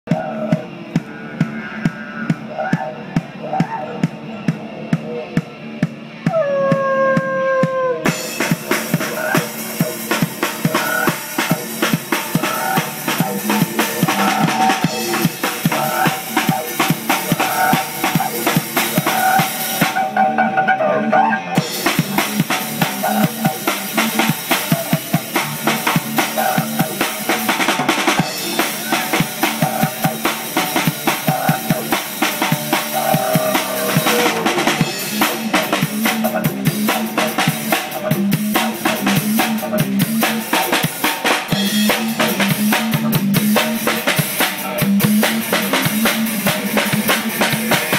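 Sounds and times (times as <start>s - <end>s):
drum kit beat: 0.0s - 20.2s, 21.6s - 47.9s
didgeridoo drone: 0.1s - 47.9s.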